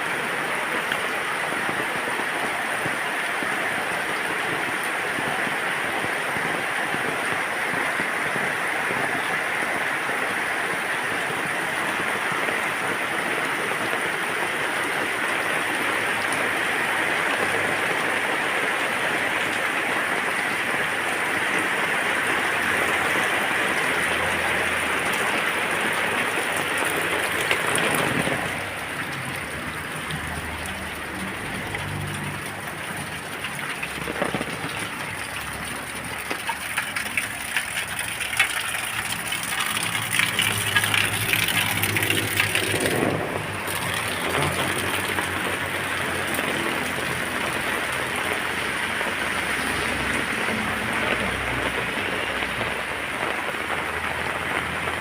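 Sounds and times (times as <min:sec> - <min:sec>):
close drips and splashes: 0:00.0 - 0:55.0
rain falling on plants: 0:00.0 - 0:55.0.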